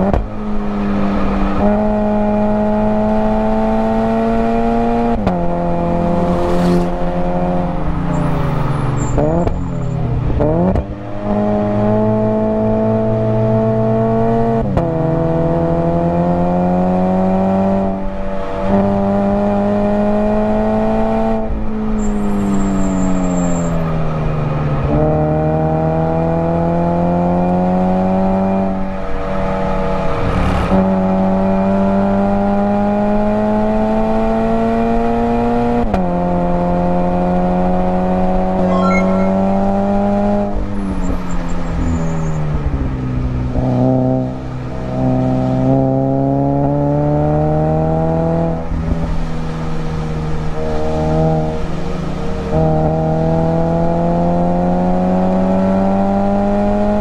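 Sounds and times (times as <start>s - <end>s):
car engine revving through gears: 0.0s - 22.0s, 24.8s - 38.7s, 43.4s - 57.0s.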